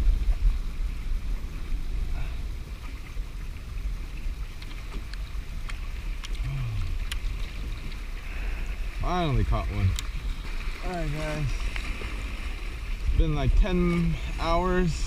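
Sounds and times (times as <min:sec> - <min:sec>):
waves lapping against hull: 0:00.0 - 0:15.0
wind buffeting microphone: 0:00.0 - 0:15.0.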